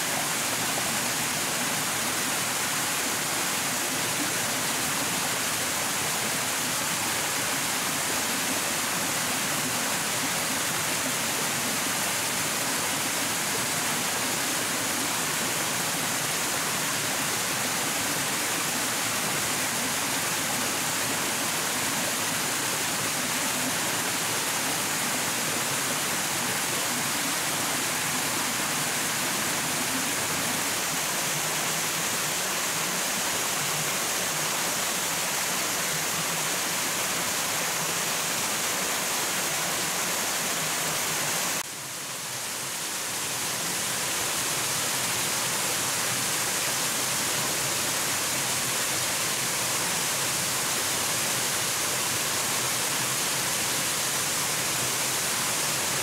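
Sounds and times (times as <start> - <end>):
rush of flowing water: 0.0 - 56.0.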